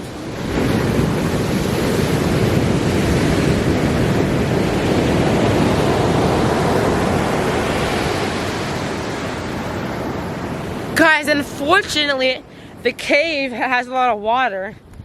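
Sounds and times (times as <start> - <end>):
ocean surf rushing onto beach: 0.0 - 12.9.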